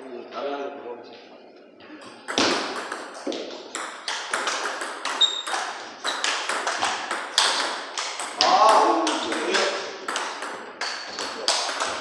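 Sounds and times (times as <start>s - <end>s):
table tennis balls clicking: 2.3s - 12.0s.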